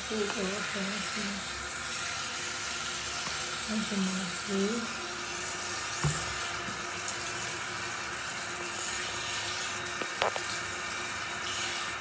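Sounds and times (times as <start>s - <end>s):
sink tap running: 0.0s - 12.0s.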